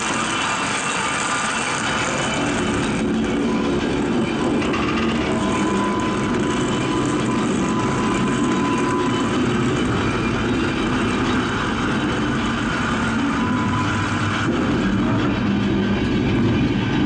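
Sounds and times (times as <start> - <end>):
thin steady whine: 0.0 - 17.0
dense grinding rumble: 1.3 - 17.0.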